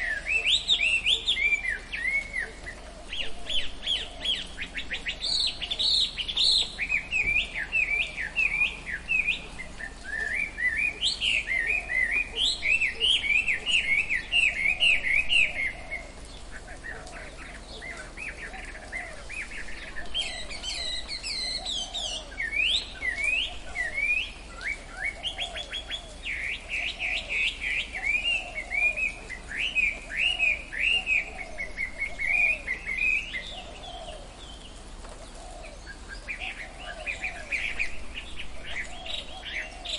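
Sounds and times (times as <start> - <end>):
birds chirping: 0.0 - 39.9
low bird calls: 0.0 - 39.9.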